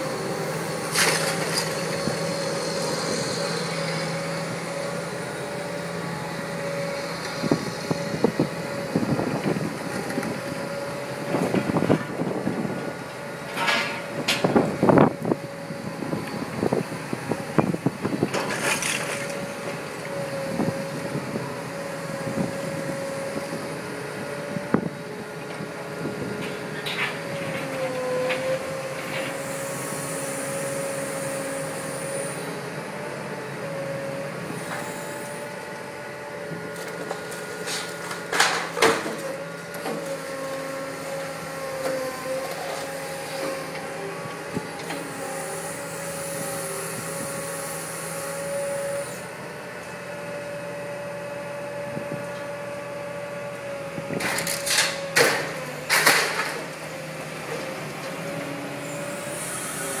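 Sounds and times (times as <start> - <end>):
excavator whining: 0.0 - 60.0.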